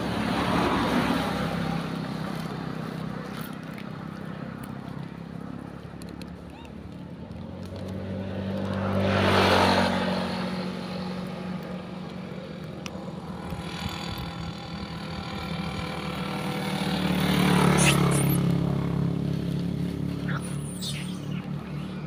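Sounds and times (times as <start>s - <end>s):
vehicle engines passing: 0.0s - 22.0s.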